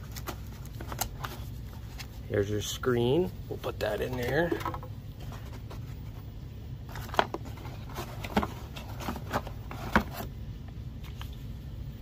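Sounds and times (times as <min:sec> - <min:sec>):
cardboard rustling: 0:00.0 - 0:02.4, 0:03.1 - 0:10.4.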